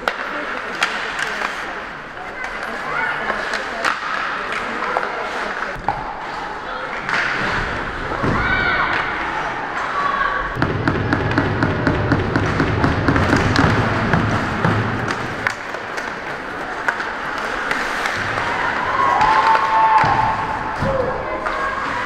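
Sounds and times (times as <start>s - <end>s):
crowd voices: 0.0s - 22.0s.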